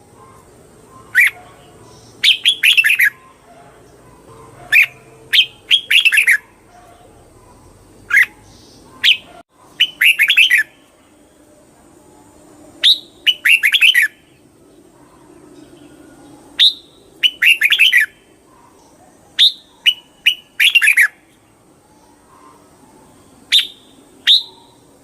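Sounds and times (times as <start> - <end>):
bulbul singing: 0.0 - 11.4, 12.3 - 22.6, 23.2 - 25.0.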